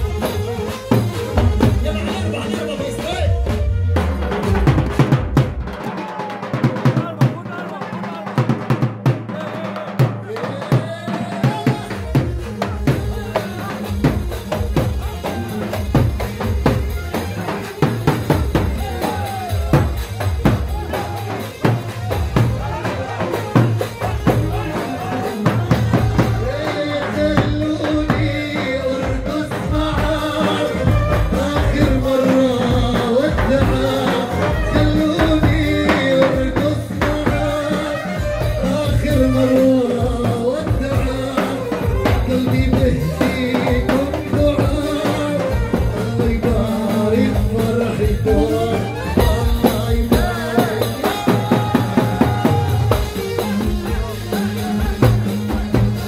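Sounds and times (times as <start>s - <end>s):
riq and drums beat: 0.0s - 56.0s.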